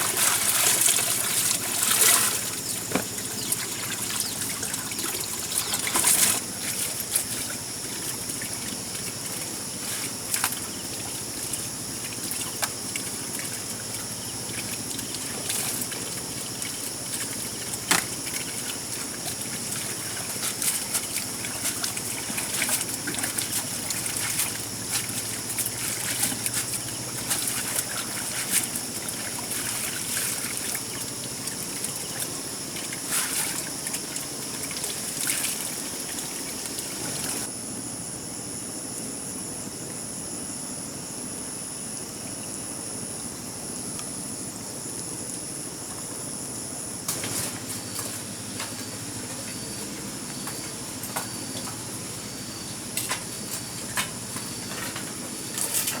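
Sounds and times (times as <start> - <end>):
water trickling: 0.0 - 37.5, 47.1 - 56.0.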